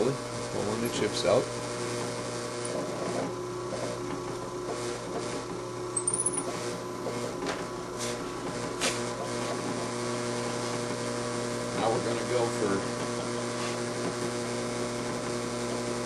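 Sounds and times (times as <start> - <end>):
drill press humming: 0.0 - 16.0.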